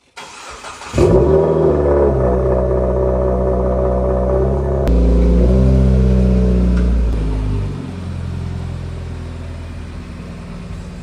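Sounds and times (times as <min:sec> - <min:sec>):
car engine and exhaust running: 0:01.0 - 0:11.0.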